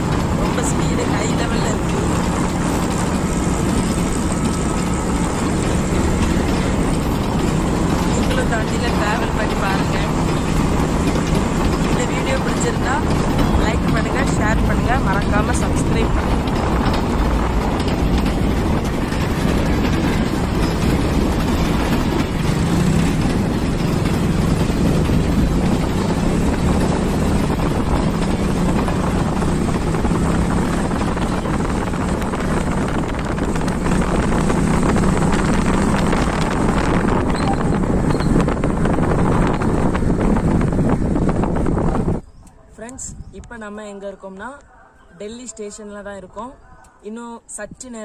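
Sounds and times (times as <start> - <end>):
motorcycle engine hum: 0.0 - 47.7
road and wind noise: 0.0 - 48.0.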